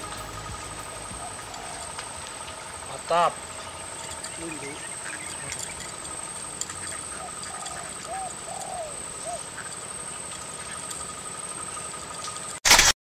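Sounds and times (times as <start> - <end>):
bird calling: 0.0 - 12.6
high-pitched whine: 0.0 - 12.9.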